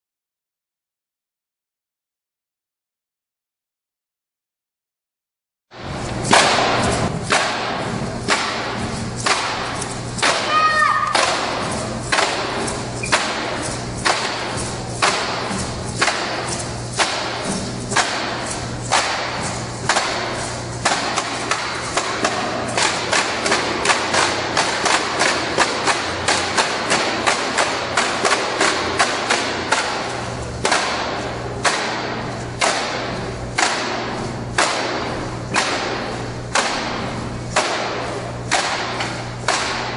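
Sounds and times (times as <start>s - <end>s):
hands beating buckets: 5.8s - 39.9s
steady low hum: 5.8s - 39.9s.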